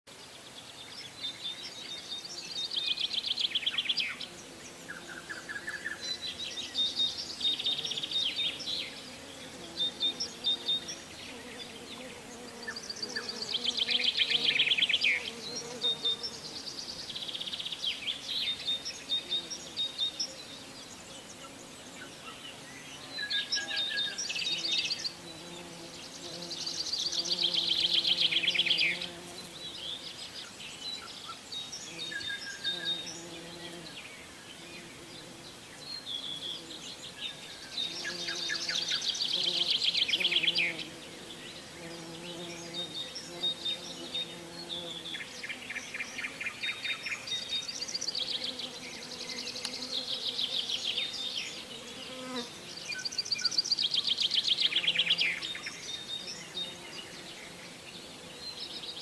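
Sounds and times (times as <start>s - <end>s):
songbirds singing trills: 0.5s - 59.0s.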